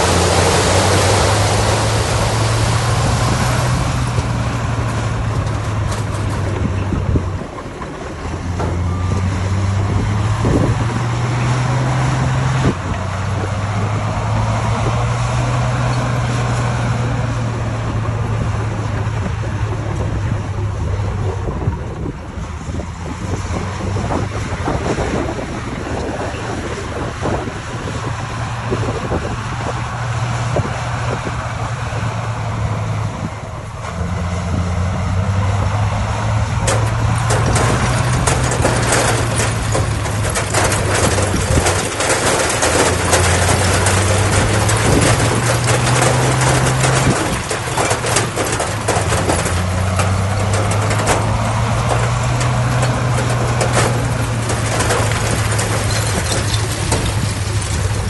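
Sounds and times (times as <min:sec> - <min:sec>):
diesel engine droning under load: 0:00.0 - 0:58.0.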